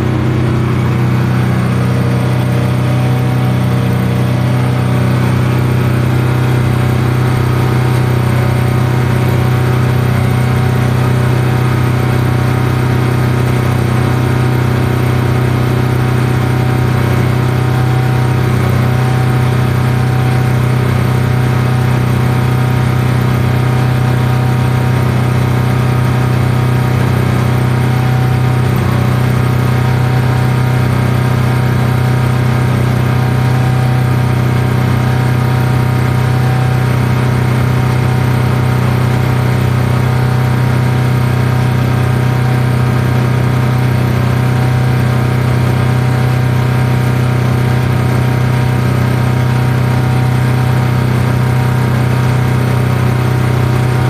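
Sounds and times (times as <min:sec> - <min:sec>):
engine welder running: 0:00.0 - 0:54.0.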